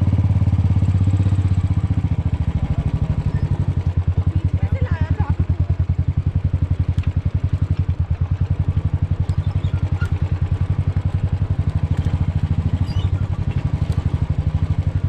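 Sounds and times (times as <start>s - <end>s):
engine running with low throb: 0.0s - 15.0s.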